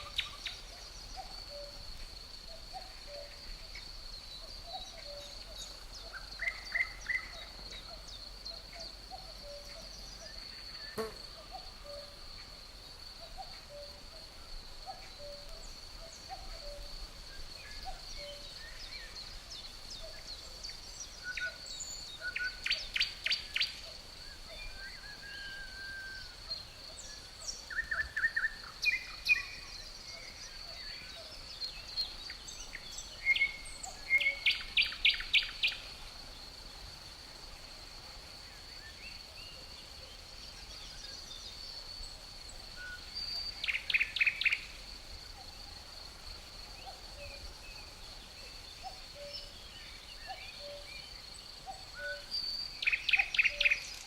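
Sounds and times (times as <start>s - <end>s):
crickets trilling: 0.0s - 54.0s
songbirds chirping: 0.0s - 54.0s.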